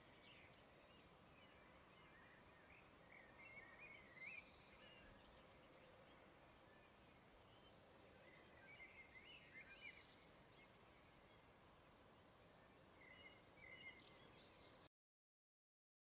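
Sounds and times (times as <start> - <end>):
faint ambient hiss: 0.0 - 14.9
small birds chirping: 0.0 - 14.9.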